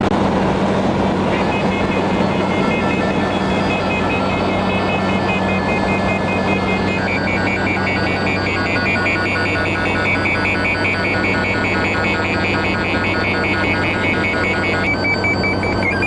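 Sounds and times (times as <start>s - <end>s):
vehicle road and engine noise: 0.0s - 16.0s
electronic beeping tune: 1.3s - 16.0s.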